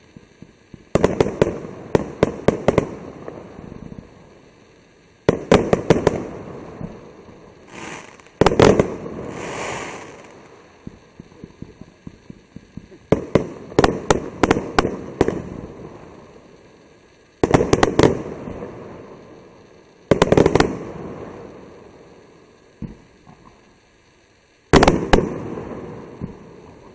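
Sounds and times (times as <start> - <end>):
firework bangs: 0.0 - 23.5, 24.7 - 26.9
firework hissing and crackling: 0.0 - 26.9.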